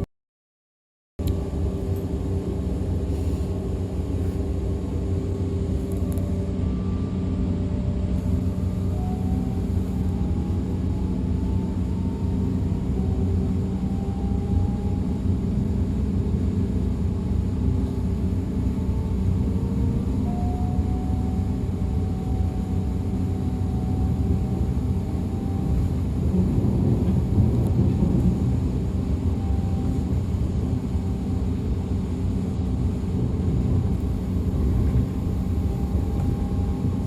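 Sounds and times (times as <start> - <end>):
faint rising whine: 1.2 - 37.0
train rumble and hum: 1.2 - 37.0.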